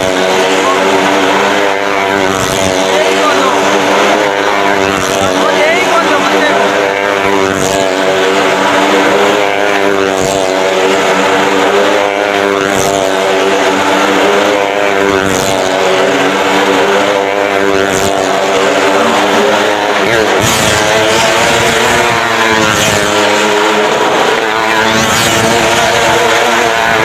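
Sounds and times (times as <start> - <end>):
motorcycle engine at high revs: 0.0 - 27.0
motorcycle whoosh: 0.0 - 27.0.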